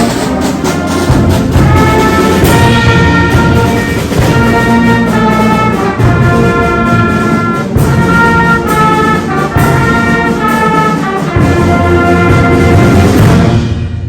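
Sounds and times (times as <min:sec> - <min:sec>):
brass playing held chords: 0:00.0 - 0:14.0.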